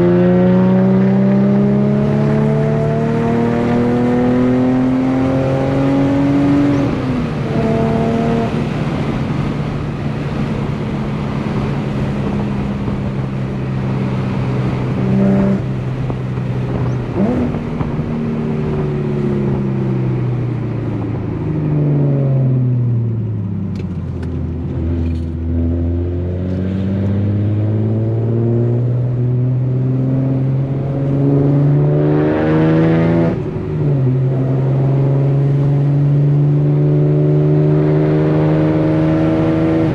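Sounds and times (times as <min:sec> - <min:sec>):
car engine revving through gears: 0:00.0 - 0:20.1, 0:24.5 - 0:39.9.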